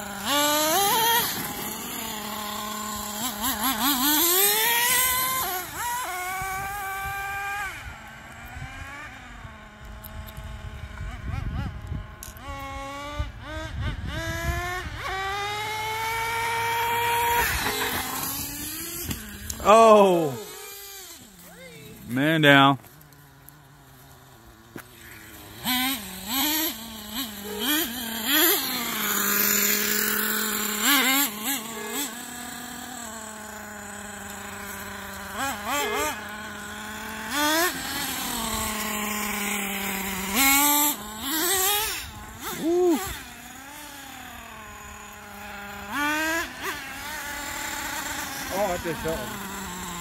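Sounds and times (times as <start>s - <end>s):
small engine idling and revving: 0.0s - 50.0s.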